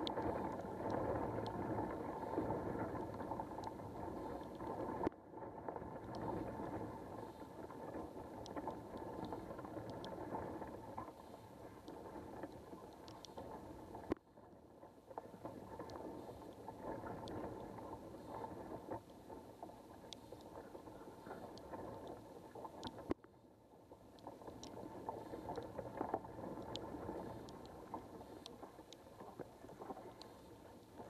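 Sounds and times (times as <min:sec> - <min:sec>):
sharp underwater clicks: 0:00.0 - 0:05.1, 0:06.0 - 0:14.2, 0:15.2 - 0:23.2, 0:24.1 - 0:31.0.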